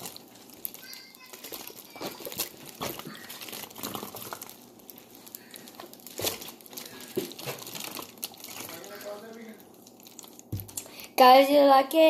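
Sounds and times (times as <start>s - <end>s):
plastic crinkling: 0.0s - 11.1s.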